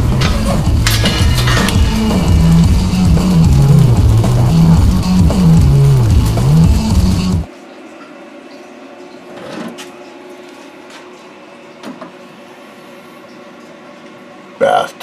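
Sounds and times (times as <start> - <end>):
shop room tone hum: 0.0 - 15.0.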